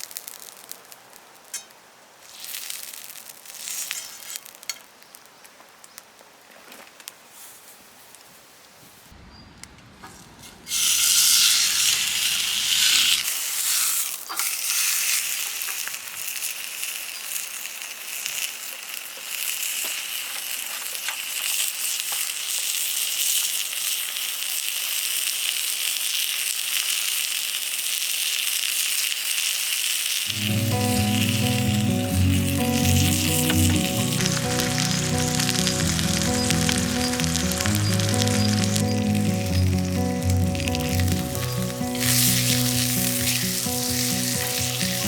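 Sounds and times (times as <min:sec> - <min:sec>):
food sizzling in a hot pan: 0:00.0 - 0:05.4, 0:10.7 - 0:45.0.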